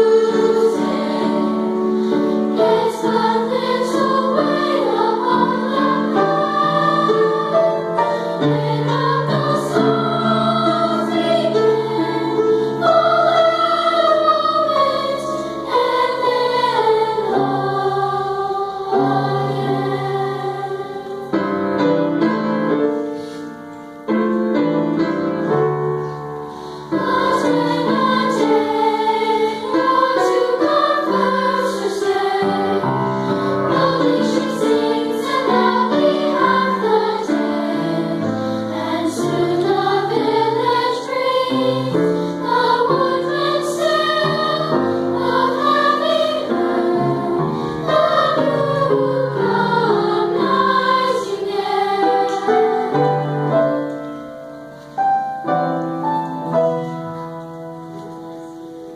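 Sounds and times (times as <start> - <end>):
choir singing: 0.0 - 23.2, 24.1 - 54.3
piano accompaniment: 0.0 - 58.9.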